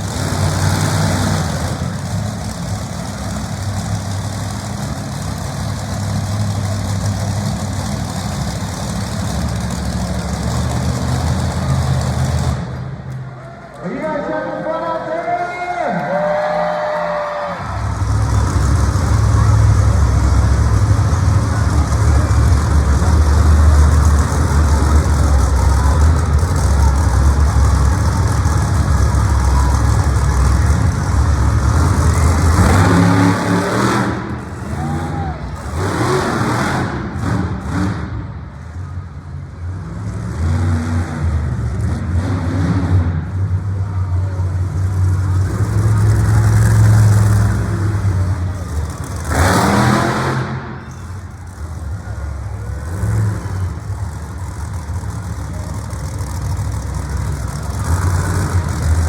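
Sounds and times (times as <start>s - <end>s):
monster truck engine revving: 0.0s - 13.8s, 16.2s - 59.0s.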